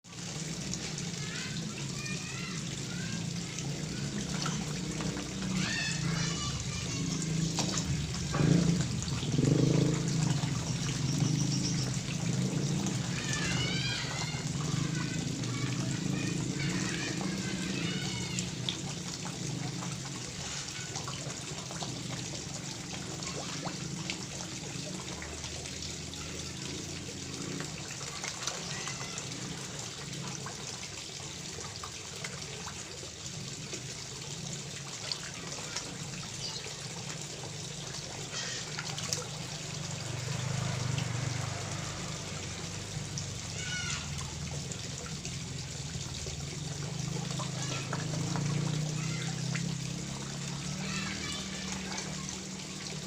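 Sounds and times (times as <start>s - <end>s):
water trickling into a pond: 0.0s - 53.0s.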